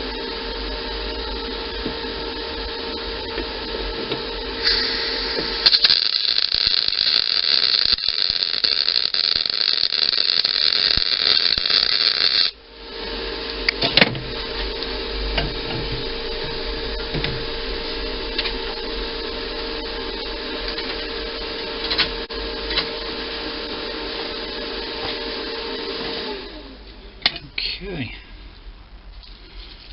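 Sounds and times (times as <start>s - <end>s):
welder arc hissing and crackling: 0.0s - 26.9s
steady hum: 0.0s - 29.9s.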